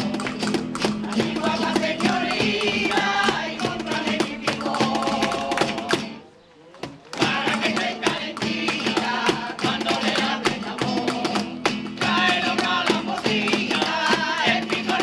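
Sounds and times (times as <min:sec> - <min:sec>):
hand claps: 0:00.0 - 0:06.2, 0:06.8 - 0:15.0
acoustic guitar: 0:00.0 - 0:15.0
choir singing: 0:01.0 - 0:06.2, 0:07.2 - 0:15.0.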